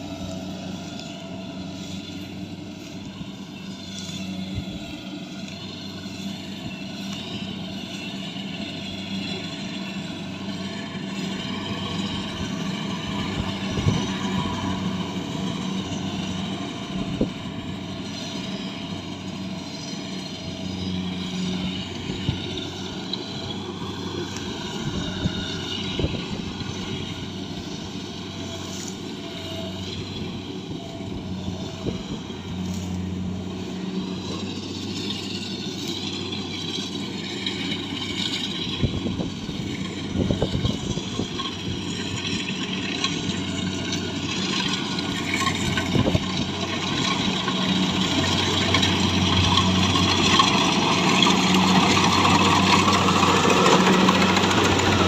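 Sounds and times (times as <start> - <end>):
harvester engine running: 0.0 - 55.0
wavering mechanical whine: 0.0 - 55.0.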